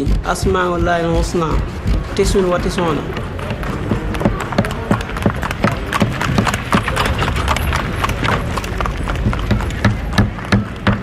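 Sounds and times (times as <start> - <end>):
sharp knocks: 0.0 - 11.0.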